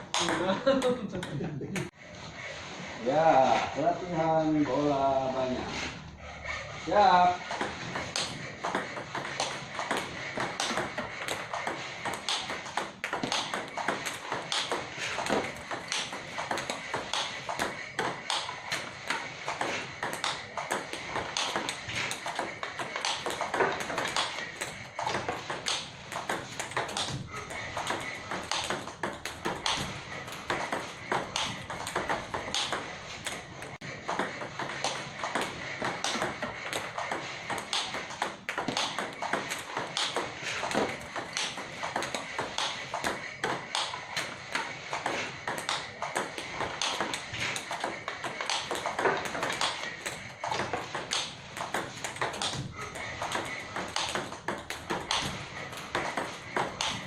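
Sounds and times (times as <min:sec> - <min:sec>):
table tennis balls clicking: 0:00.0 - 0:02.0, 0:07.4 - 0:57.0.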